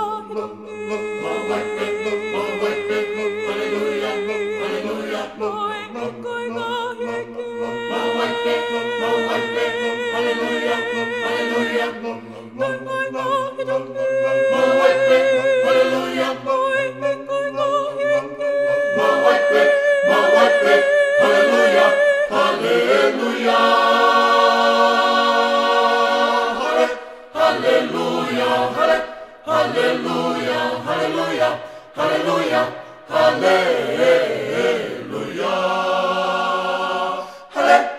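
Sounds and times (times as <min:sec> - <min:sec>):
a cappella choir singing: 0:00.0 - 0:37.9.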